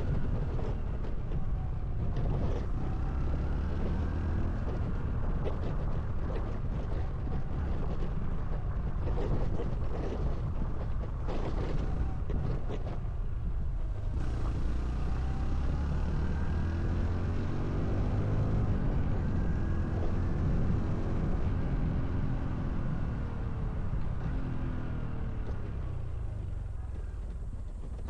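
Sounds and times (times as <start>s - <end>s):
motorcycle engine accelerating: 0.0s - 28.0s
wind buffeting microphone: 0.0s - 28.0s.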